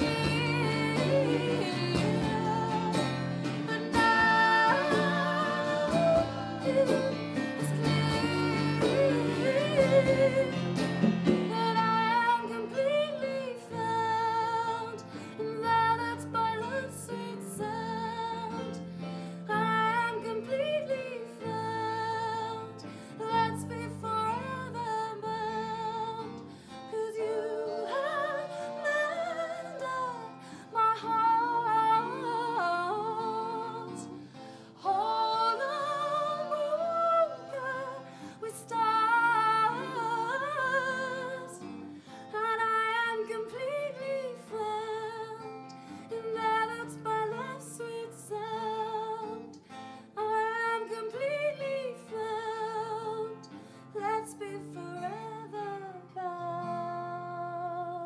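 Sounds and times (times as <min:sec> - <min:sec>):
woman singing with vibrato: 0:00.0 - 0:18.8, 0:19.5 - 0:49.5, 0:50.2 - 0:58.0
acoustic guitar: 0:00.0 - 0:58.0.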